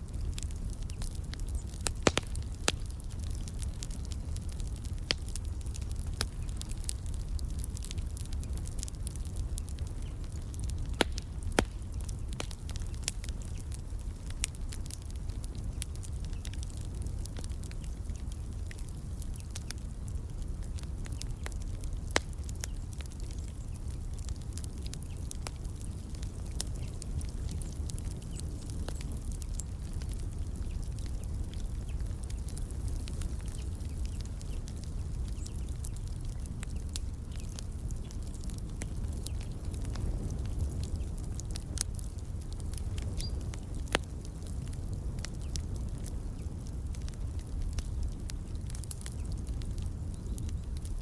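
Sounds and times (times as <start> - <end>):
low rumble of flames: 0.0 - 51.0
wood fire crackling: 0.0 - 51.0.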